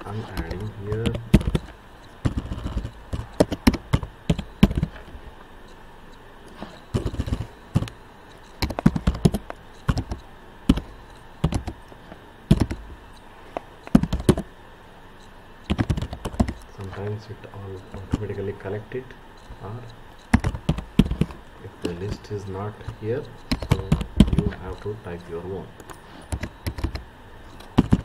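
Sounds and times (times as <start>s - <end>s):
keyboard keys clicking: 0.0s - 5.2s, 6.4s - 14.5s, 15.6s - 18.6s, 20.2s - 28.0s.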